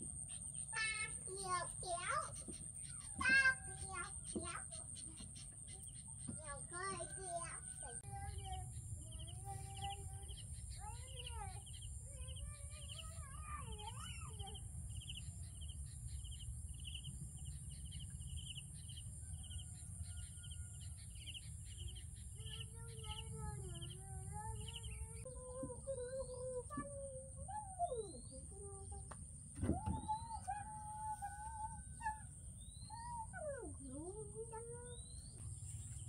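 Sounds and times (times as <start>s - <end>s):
bird chirping: 0.0s - 26.9s, 29.6s - 36.0s.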